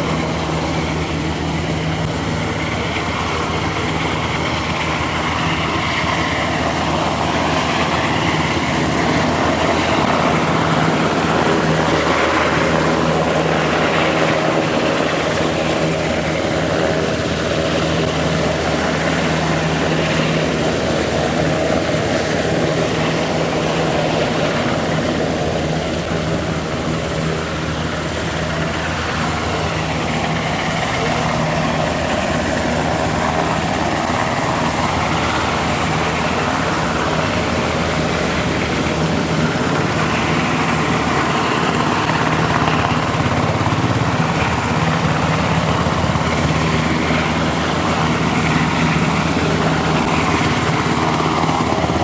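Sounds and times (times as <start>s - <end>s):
helicopter rotor and turbine drone: 0.0s - 52.0s.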